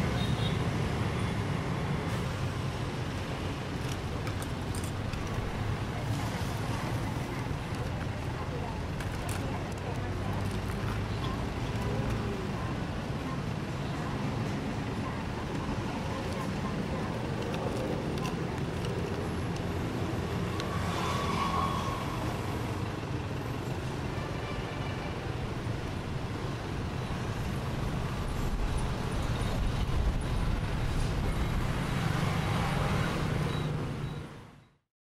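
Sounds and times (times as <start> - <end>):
road traffic engines rumbling: 0.0 - 34.8.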